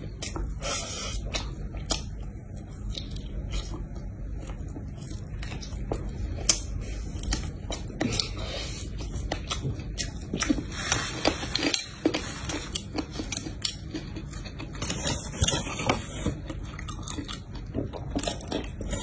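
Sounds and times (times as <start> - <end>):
person chewing and crunching food: 0.0 - 19.0.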